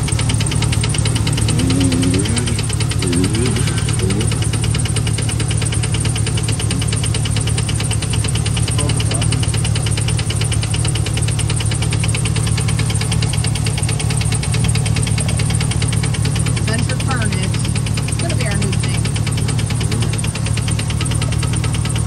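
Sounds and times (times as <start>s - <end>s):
truck engine idling with ticking: 0.0s - 22.0s.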